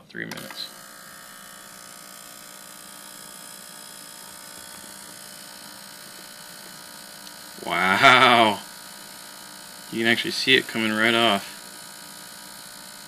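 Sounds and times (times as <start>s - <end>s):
ultrasonic cleaner buzzing hum: 0.0s - 13.0s.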